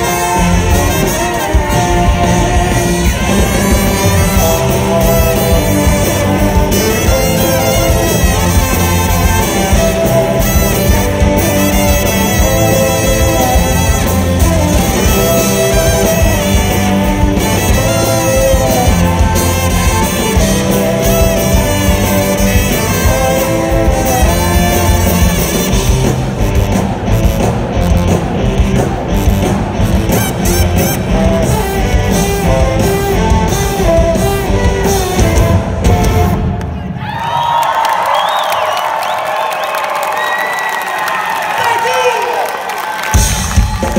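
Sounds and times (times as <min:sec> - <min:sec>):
electric guitar: 0:00.0 - 0:36.8
brass band playing: 0:00.0 - 0:37.0
drums: 0:00.0 - 0:43.9.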